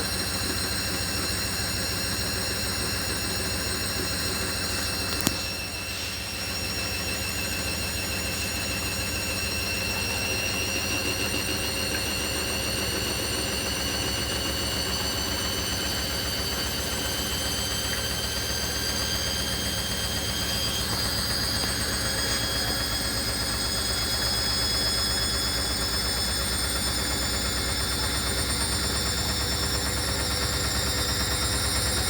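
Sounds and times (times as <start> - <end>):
washing machine motor whine: 0.0 - 32.0.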